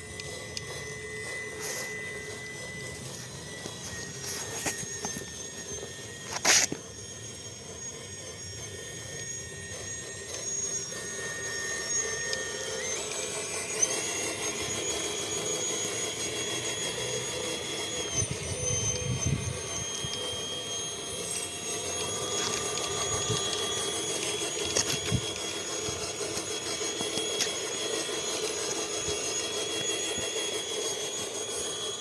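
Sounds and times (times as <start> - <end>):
toy tractor motor whine: 0.0 - 32.0.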